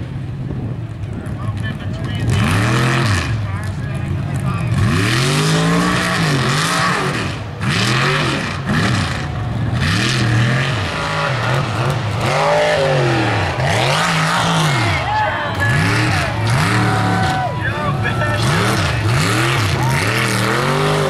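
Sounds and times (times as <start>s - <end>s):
truck engine revving hard: 1.6s - 21.0s.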